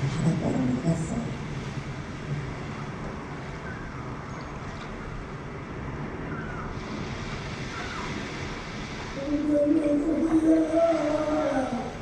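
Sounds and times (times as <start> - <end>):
sea waves: 0.0 - 12.0.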